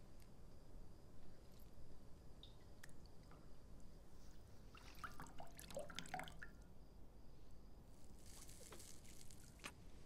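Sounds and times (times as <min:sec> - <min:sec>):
soft hiss: 0:00.0 - 0:10.0.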